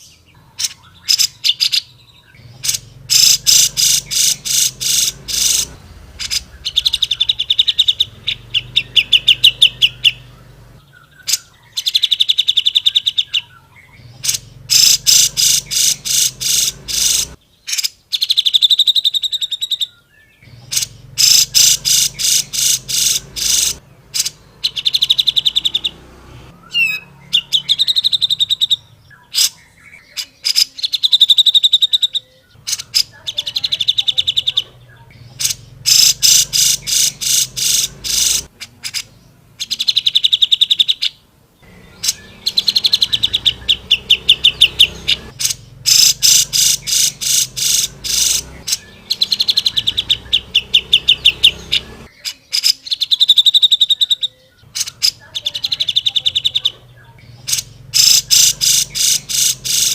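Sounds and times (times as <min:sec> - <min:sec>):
bulbul singing buzzy trills: 0:00.0 - 0:59.9.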